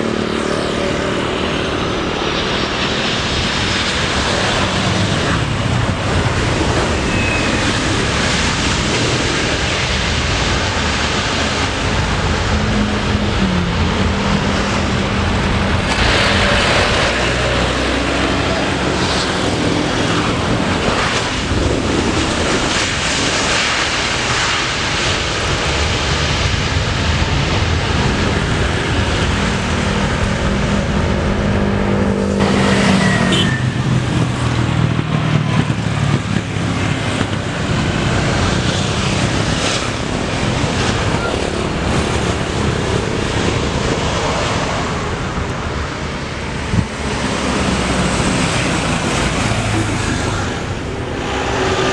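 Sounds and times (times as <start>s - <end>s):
jet engines roaring: 0.0s - 51.9s
road traffic: 0.0s - 51.9s.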